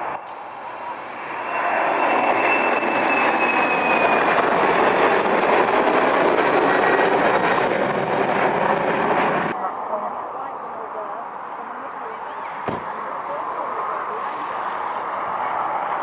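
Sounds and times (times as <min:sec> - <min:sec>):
jet engines at take-off power: 0:00.0 - 0:16.0.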